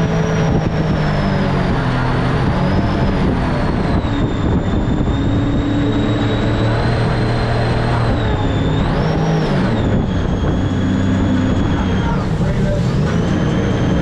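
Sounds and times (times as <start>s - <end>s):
boat engine rumble: 0.0s - 14.0s
high whine from drive: 0.0s - 14.0s.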